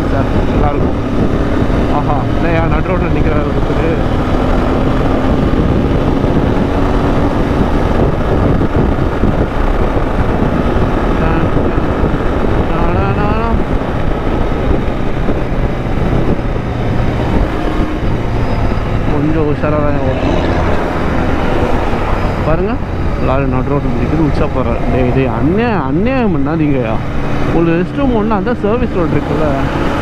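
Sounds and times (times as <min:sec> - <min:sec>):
wind rush on microphone: 0:00.0 - 0:30.0.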